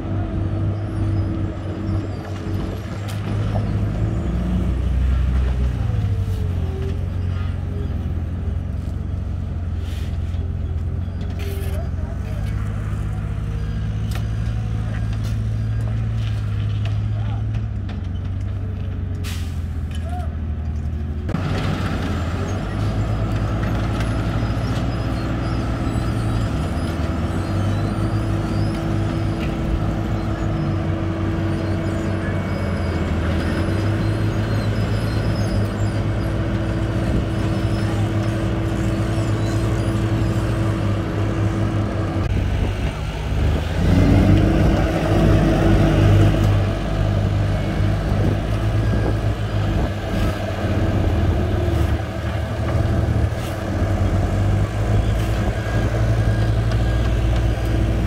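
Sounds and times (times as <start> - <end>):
diesel machinery droning: 0.0 - 58.0.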